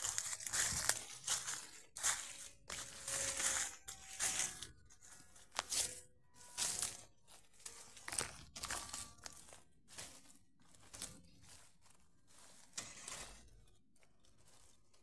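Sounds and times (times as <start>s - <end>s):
footsteps crunching dry leaves: 0.0s - 15.0s
leafy branches brushing: 0.0s - 15.0s.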